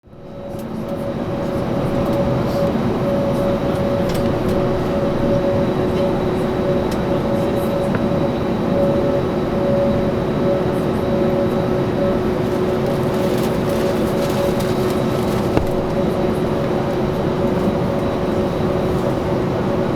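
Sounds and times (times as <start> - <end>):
jet airliner engines running: 0.0 - 19.9.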